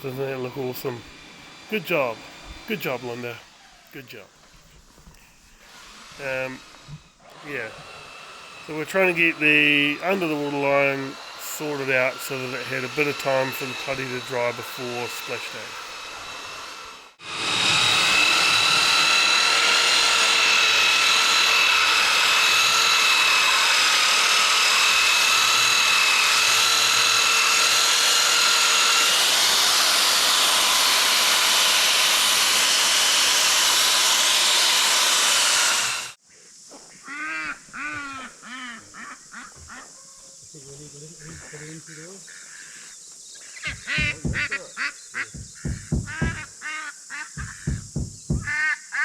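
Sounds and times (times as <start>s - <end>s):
power tool whining: 0.0s - 36.2s, 43.5s - 46.6s, 47.3s - 48.6s.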